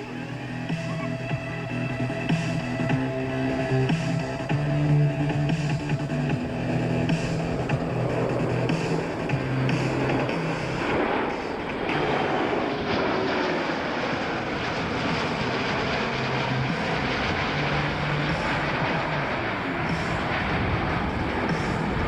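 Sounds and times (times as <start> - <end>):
jet aircraft flying past: 0.0 - 22.0.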